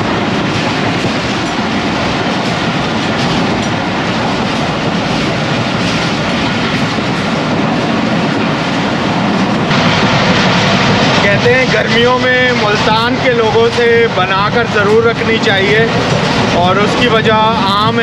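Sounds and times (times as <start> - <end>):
train wheels rushing on rails: 0.0 - 18.0.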